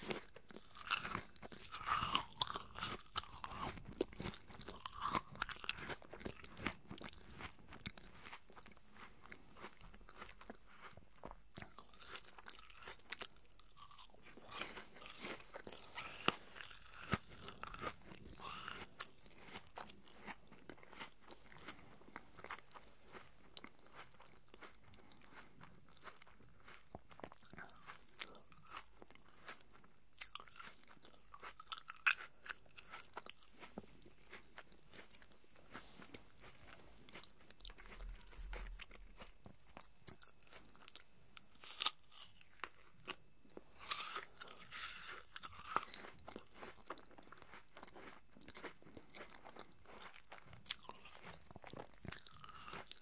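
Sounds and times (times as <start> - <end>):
chewing crisp apple: 0.0 - 53.0.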